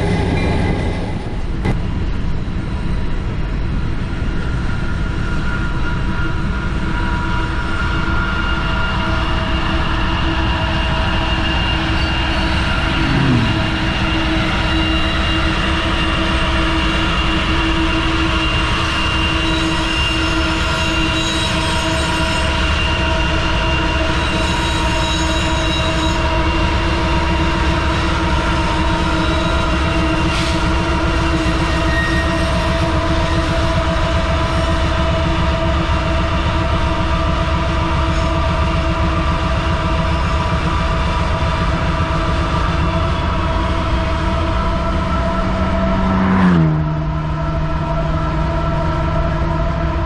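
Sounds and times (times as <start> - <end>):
train cars rumbling: 0.0 - 50.0.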